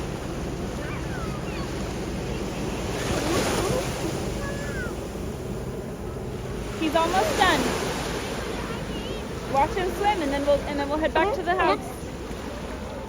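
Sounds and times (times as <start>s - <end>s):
ocean surf washing ashore: 0.0s - 13.0s.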